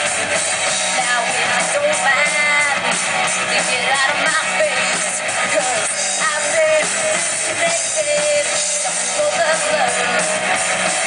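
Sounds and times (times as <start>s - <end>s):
drum kit: 0.0s - 11.0s
electric guitars: 0.0s - 11.0s
woman singing: 0.7s - 10.5s.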